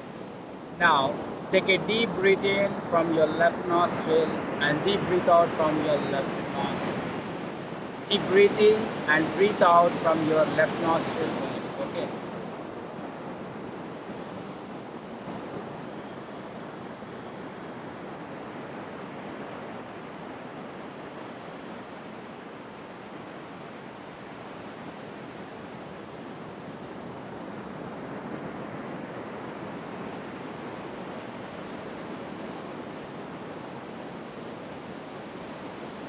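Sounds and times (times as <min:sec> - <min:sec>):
ocean surf washing on beach: 0:00.0 - 0:36.0.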